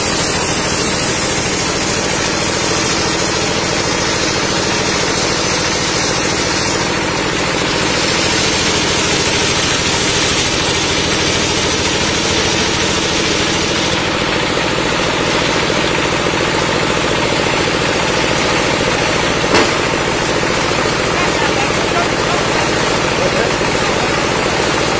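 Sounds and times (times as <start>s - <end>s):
circular saw cutting wood: 0.0s - 24.9s
saw machine running: 0.0s - 24.9s.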